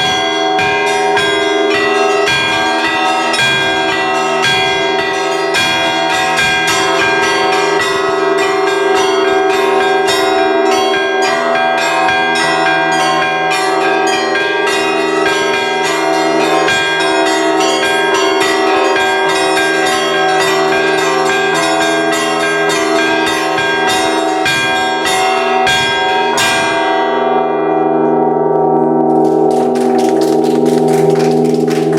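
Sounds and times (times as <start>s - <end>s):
large bells humming ring: 0.0s - 31.9s
small church bells struck fast: 0.0s - 31.9s.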